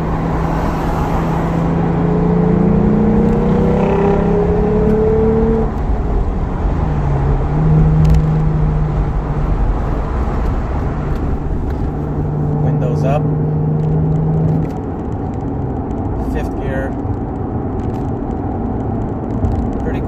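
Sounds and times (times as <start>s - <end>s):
car engine accelerating: 0.0s - 20.0s
road and tyre noise: 0.0s - 20.0s.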